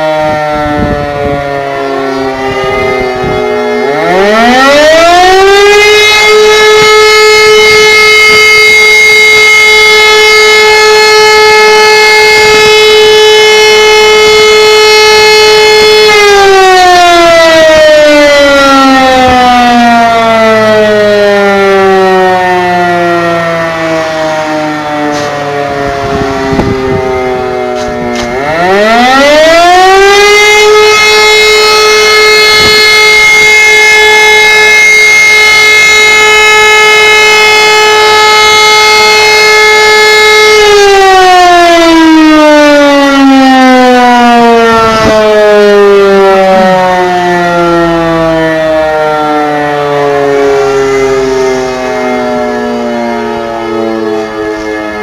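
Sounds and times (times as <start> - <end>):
civil defence siren wailing: 0.0 - 55.0
sirens winding down: 0.0 - 55.0.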